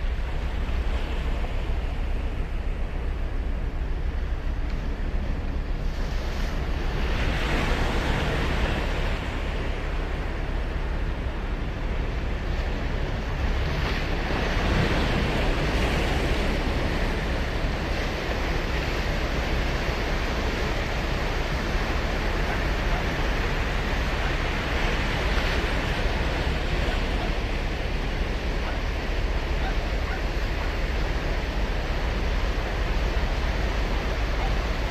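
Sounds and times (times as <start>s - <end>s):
ocean surf breaking on beach: 0.0s - 34.9s.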